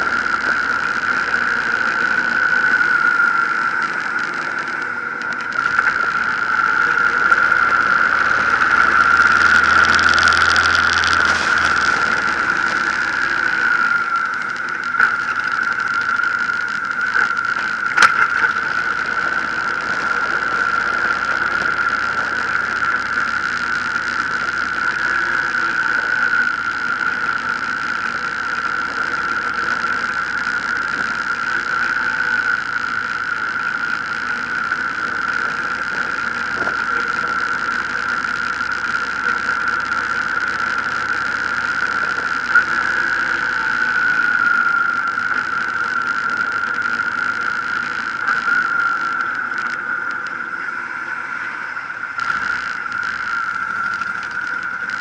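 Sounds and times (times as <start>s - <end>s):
steady high-pitched whine: 0.0s - 55.0s
motorcycle engine running: 4.2s - 49.6s.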